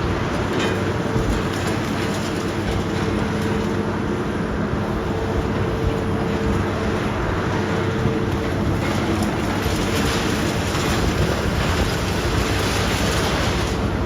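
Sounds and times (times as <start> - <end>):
demolition machinery engine running: 0.0 - 14.0.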